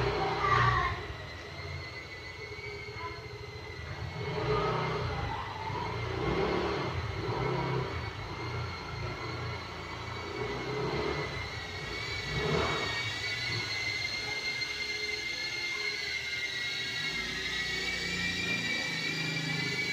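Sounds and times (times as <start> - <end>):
drone motors whining: 0.0 - 19.9.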